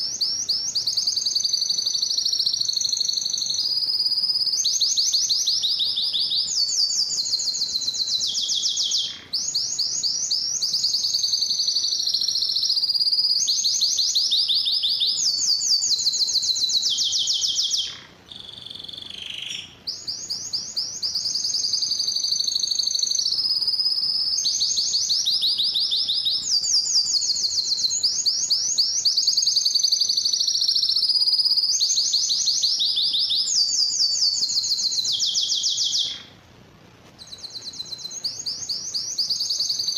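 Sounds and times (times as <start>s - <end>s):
canary singing trills: 0.0s - 36.4s, 37.1s - 39.9s.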